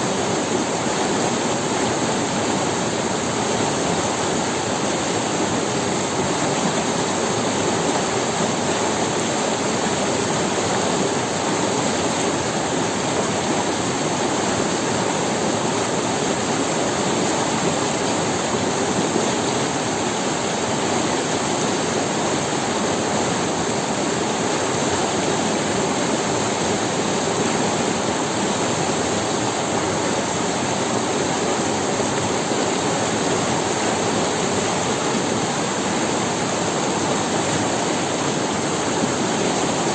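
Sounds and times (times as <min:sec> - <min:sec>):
river splashing over stones: 0:00.0 - 0:39.9.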